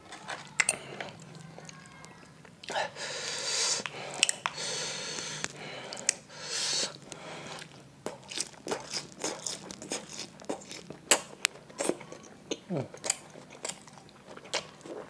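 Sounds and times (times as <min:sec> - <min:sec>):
man biting and chewing food: 0:00.0 - 0:15.0.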